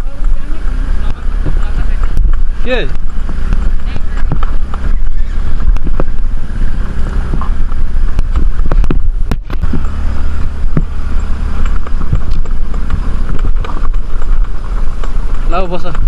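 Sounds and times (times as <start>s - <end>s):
knocks and clatters: 0.0s - 16.0s
low rumble: 0.0s - 16.0s
wind buffeting microphone: 0.0s - 16.0s.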